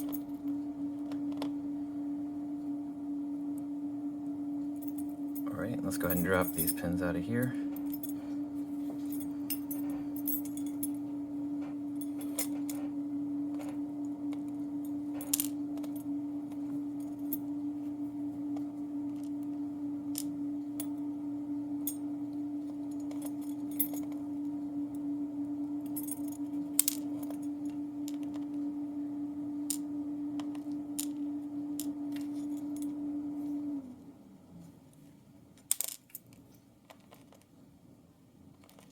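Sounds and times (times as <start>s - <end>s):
steady hum: 0.0s - 38.8s.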